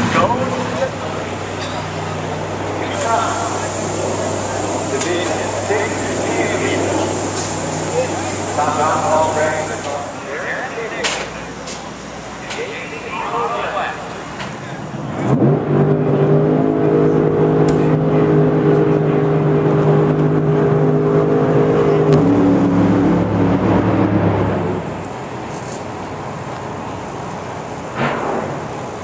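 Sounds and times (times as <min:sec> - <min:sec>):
drag racing car engine running: 0:00.0 - 0:29.0.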